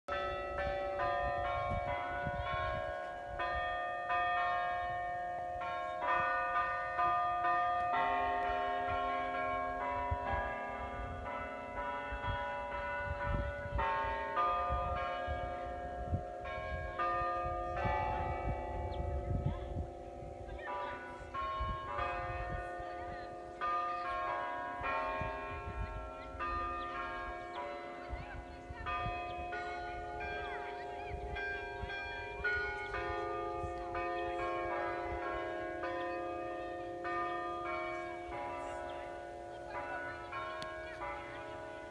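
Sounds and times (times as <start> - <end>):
tower chime bells playing a tune: 0.1 - 41.9.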